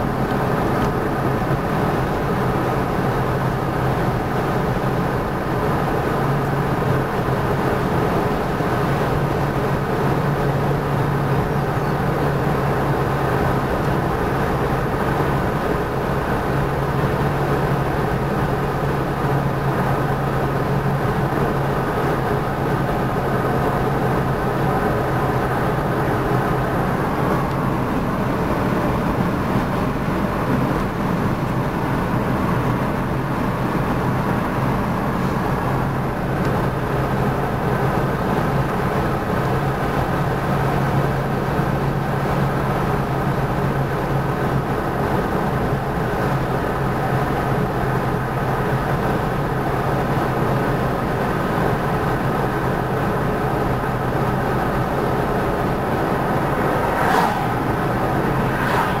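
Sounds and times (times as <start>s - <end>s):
car engine hum: 0.0s - 59.0s
tyres rushing on asphalt: 0.0s - 59.0s.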